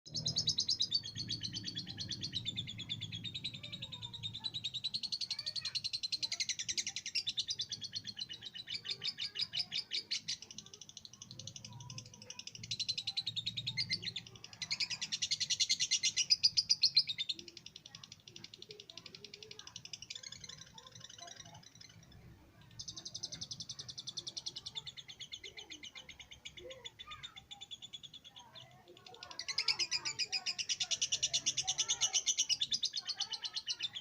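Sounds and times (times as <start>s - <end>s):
bird chattering trill: 0.1s - 34.0s.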